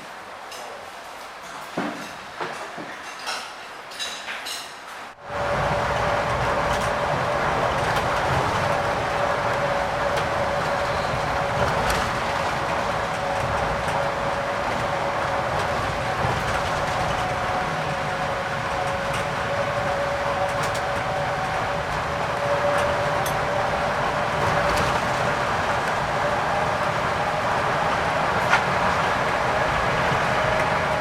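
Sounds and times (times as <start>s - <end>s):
coach engine and road noise: 5.1s - 31.0s.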